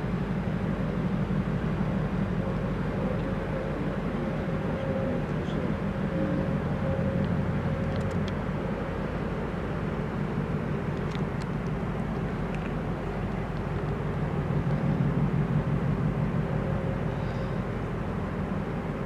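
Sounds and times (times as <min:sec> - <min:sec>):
ship engine rumble: 0:00.0 - 0:19.0.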